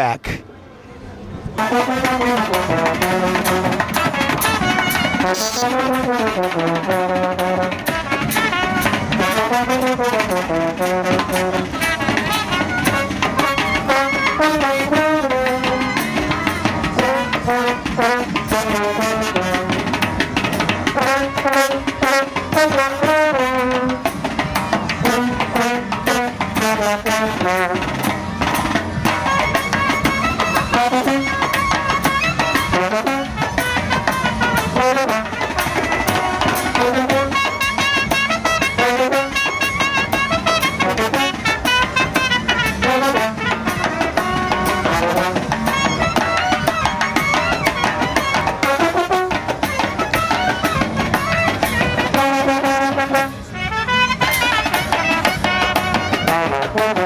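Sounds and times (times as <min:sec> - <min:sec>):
brass band playing: 0:01.4 - 0:57.0.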